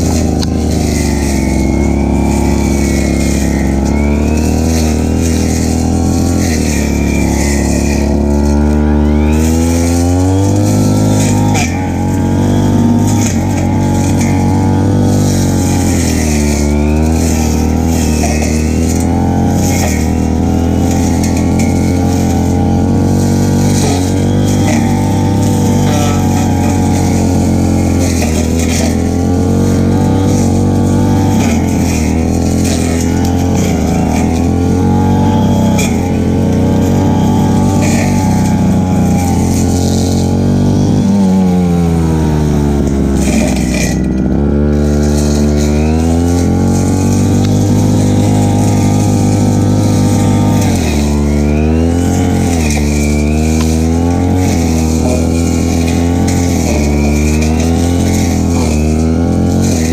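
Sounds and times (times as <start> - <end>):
brush cutter engine cutting grass: 0.0 - 59.9.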